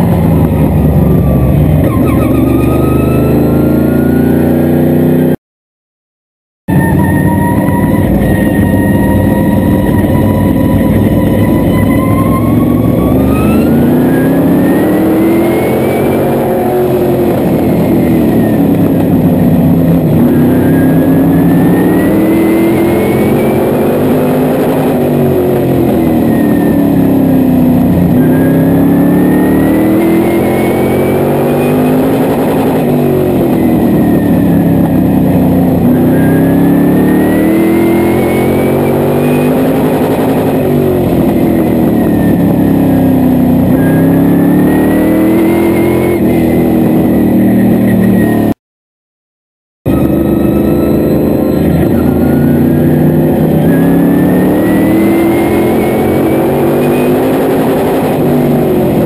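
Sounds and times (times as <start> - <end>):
race car engine revving: 6.7 - 48.6, 49.9 - 59.0.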